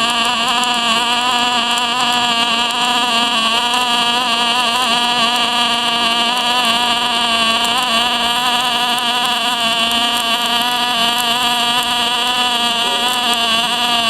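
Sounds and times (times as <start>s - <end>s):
welding arc buzzing: 0.0s - 14.0s.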